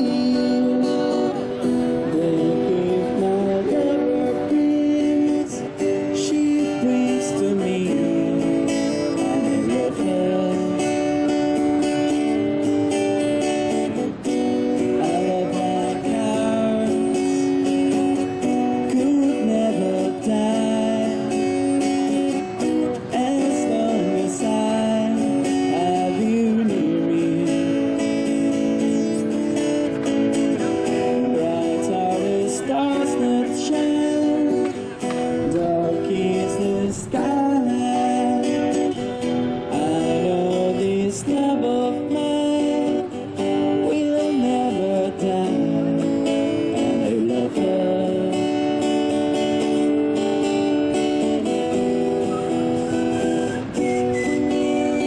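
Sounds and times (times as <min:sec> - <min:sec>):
strummed acoustic guitar music: 0:00.0 - 0:55.0.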